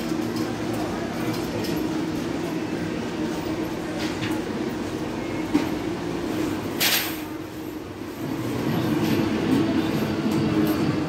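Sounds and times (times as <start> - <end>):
games machines humming: 0.0 - 11.0.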